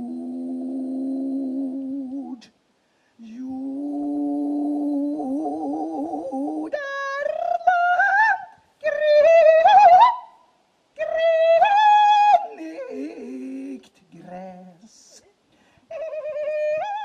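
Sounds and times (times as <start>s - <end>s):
person singing without words: 0.0s - 2.6s, 3.2s - 10.4s, 11.0s - 17.0s.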